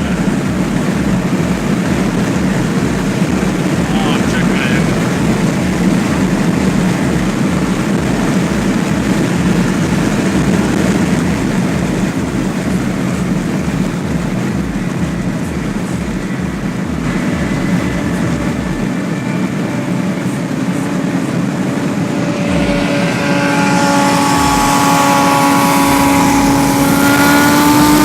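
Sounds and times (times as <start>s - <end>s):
low throbbing: 0.0s - 28.0s
wind and road noise: 0.0s - 28.0s.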